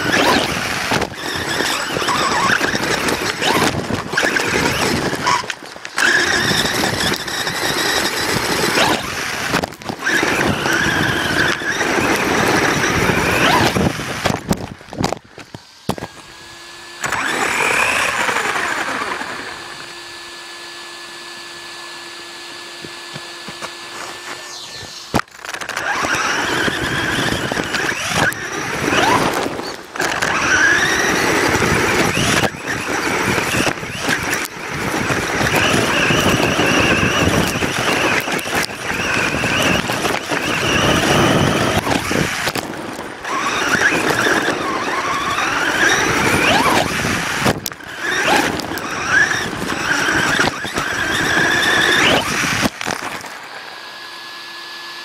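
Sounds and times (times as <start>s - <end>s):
toy car motor whining and revving: 0.0s - 55.0s.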